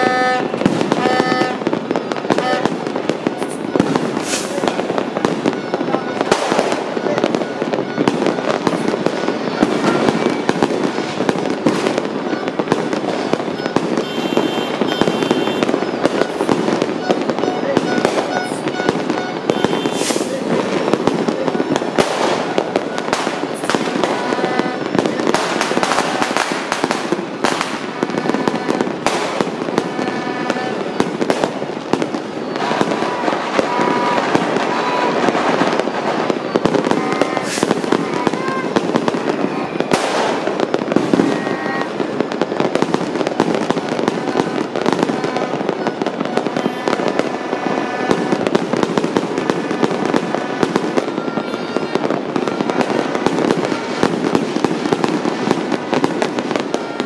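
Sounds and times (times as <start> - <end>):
fireworks and firecrackers bangs: 0.0 - 57.0.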